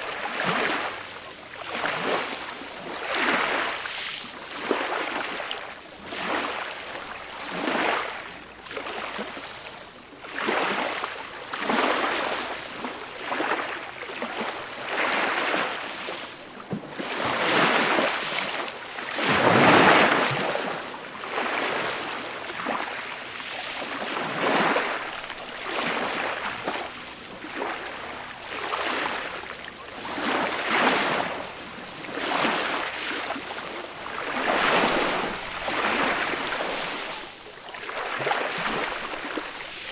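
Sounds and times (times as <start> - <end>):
gentle waves washing up beach: 0.0 - 39.9.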